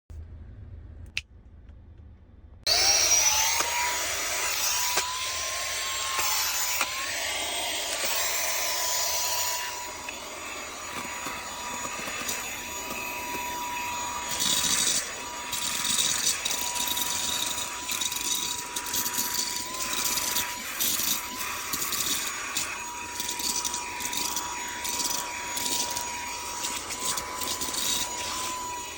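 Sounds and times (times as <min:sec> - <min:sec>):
handheld vacuum cleaner whining: 0:02.7 - 0:28.9.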